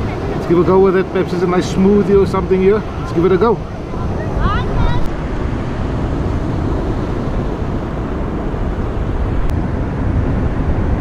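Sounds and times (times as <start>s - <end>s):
surf rumbling: 0.0s - 11.0s
wind buffeting microphone: 0.0s - 11.0s.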